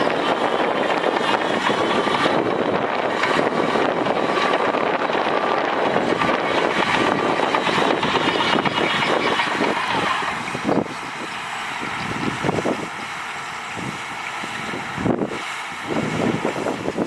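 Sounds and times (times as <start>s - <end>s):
heavy diesel machinery working: 0.0s - 17.0s.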